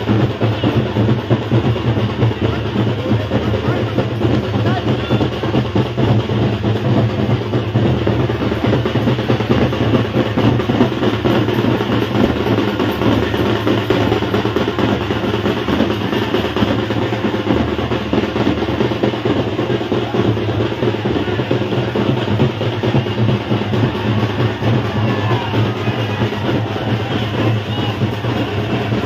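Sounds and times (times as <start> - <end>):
music with drums: 0.0 - 29.0.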